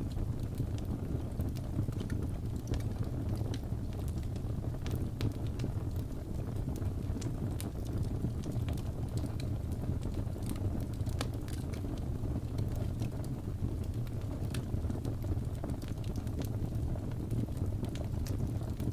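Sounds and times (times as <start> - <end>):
fireplace logs crackling: 0.0 - 18.9.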